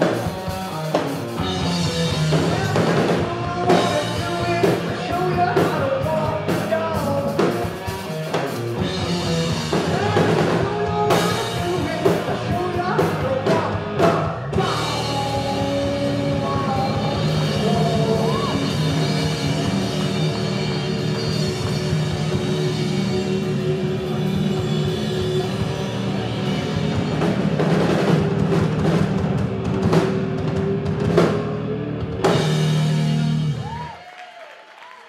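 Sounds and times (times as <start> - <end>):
electric guitar chords: 0.0 - 33.8
drum kit: 0.0 - 34.0
electric bass: 0.0 - 34.0.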